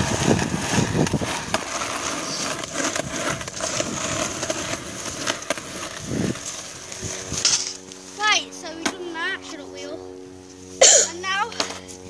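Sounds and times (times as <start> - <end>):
skateboard wheels rolling on pavement: 0.0 - 12.0.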